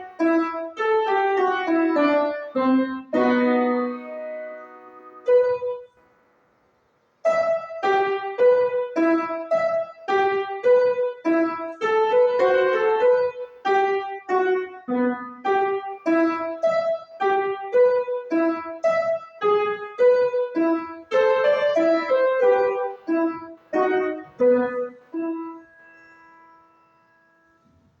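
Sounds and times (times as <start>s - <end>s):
piano playing simple melody: 0.0s - 6.4s, 7.2s - 28.0s.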